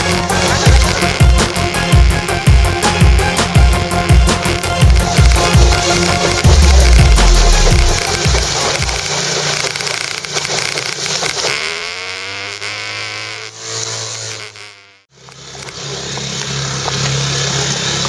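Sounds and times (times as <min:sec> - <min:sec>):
outboard motor buzzing: 0:00.0 - 0:18.0.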